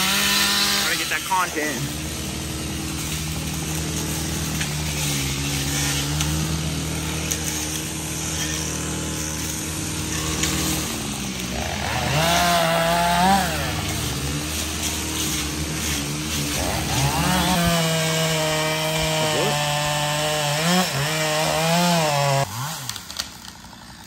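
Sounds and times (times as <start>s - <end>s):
chainsaw engine revving: 0.0s - 24.0s.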